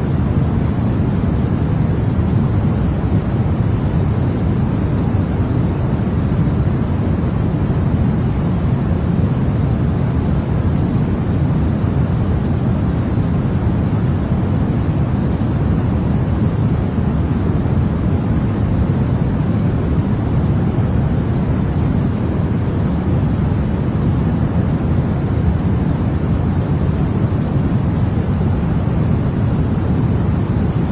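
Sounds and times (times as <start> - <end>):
deep white noise: 0.0 - 30.9.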